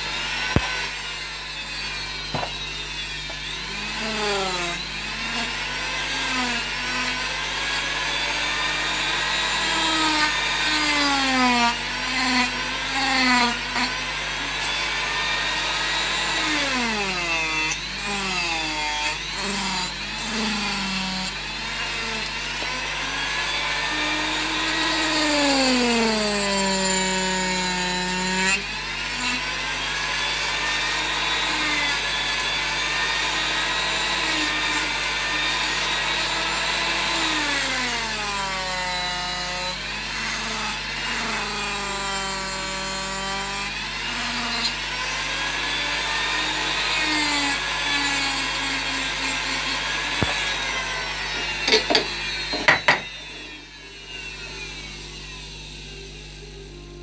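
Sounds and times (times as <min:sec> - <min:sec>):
rotary carving tool cutting wood: 0:00.0 - 0:57.0.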